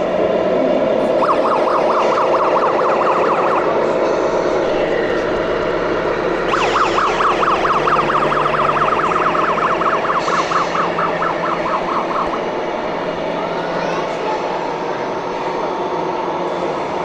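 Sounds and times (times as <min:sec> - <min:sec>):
background hubbub: 0:00.0 - 0:17.0
siren yelping: 0:01.0 - 0:15.0.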